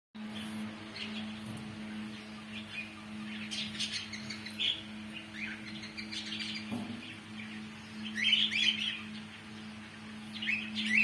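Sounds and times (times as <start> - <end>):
small birds chirping: 0.2 - 11.0
steady low hum: 0.2 - 11.0.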